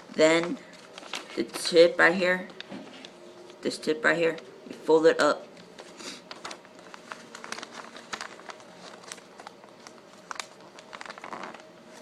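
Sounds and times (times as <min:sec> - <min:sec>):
paper rustling and crinkling: 0:00.0 - 0:03.6, 0:05.6 - 0:12.0.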